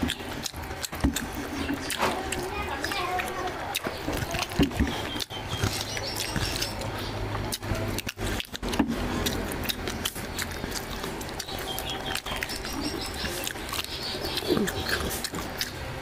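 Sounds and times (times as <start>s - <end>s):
fingers squelching through food: 0.0s - 16.0s
lips smacking and chewing: 0.0s - 16.0s.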